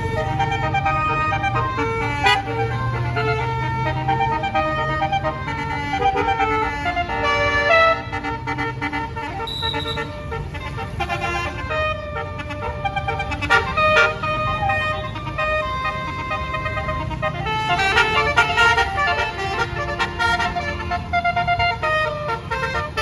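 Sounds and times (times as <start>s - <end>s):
bus air horn melody: 0.0s - 23.0s.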